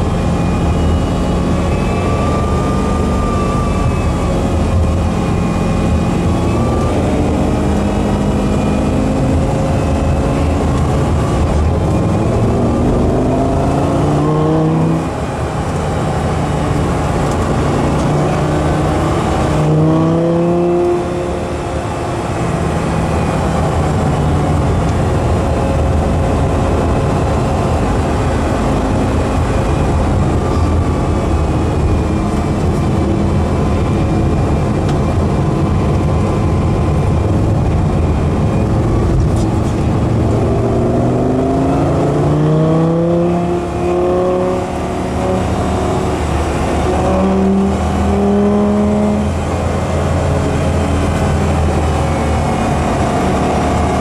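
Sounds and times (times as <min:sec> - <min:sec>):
car engine running hard: 0:00.0 - 0:54.0.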